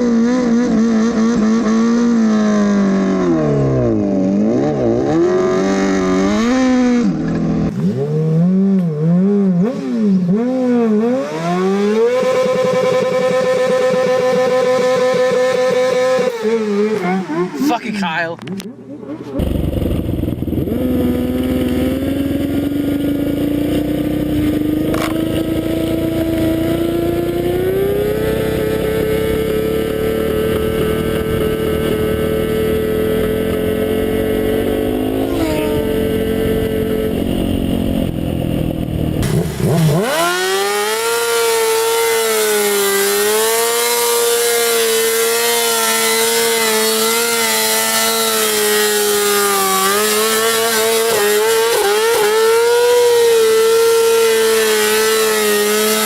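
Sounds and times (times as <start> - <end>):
motorcycle engine revving high: 0.0 - 56.0.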